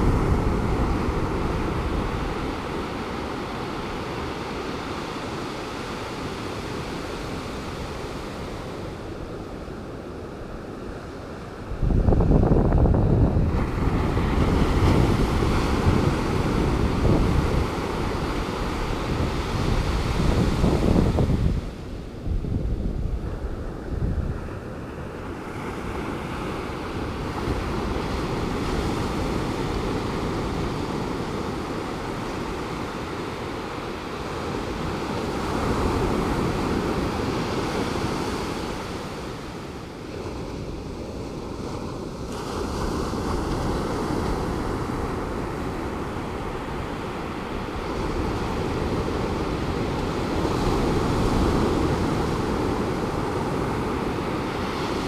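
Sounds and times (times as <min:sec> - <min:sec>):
ocean waves breaking on beach: 0:00.0 - 0:55.0
wind rumbling on microphone: 0:00.0 - 0:55.0.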